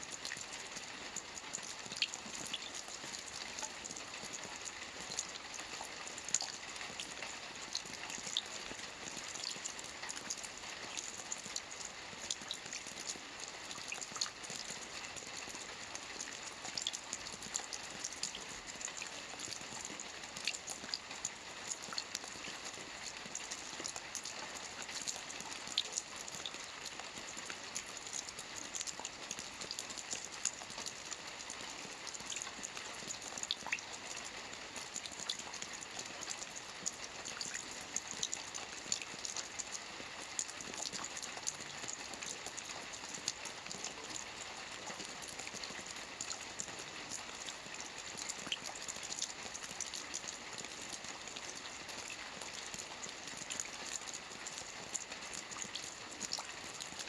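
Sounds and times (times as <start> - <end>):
rain falling on a lake: 0.0 - 57.0.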